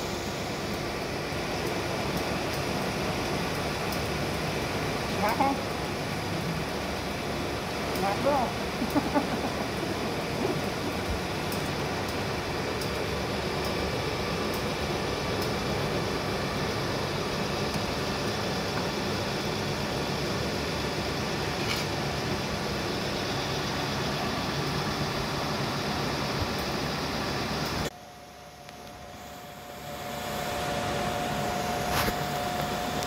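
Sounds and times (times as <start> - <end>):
machine motor and pump humming: 0.0 - 33.0.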